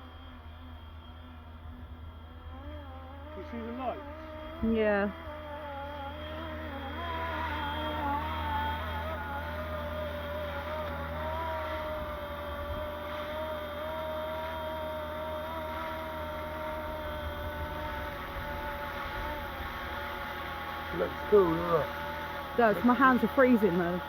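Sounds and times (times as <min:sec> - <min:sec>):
low drone: 0:00.0 - 0:24.0
tail rotor motor whining: 0:00.0 - 0:24.0.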